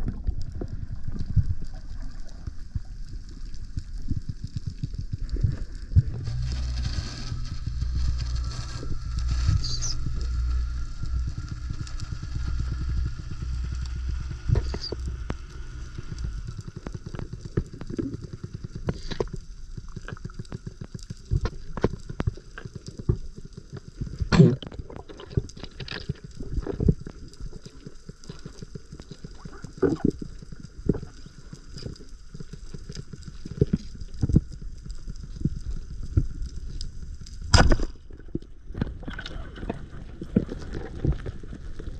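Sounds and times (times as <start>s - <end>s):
low rushing of water underwater: 0.0s - 41.9s
sharp underwater clicks and snaps: 8.0s - 41.9s.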